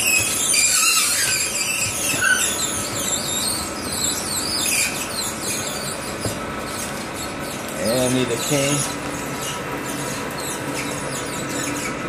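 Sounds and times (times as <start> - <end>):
corn puffs squeaking and crackling: 0.0 - 12.0
extruder machine running: 0.0 - 12.0.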